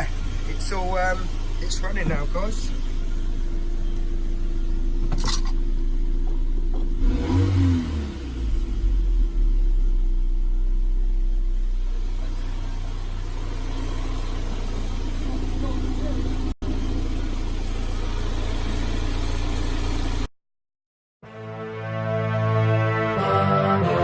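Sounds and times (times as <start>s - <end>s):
car engine idling: 0.0s - 20.3s.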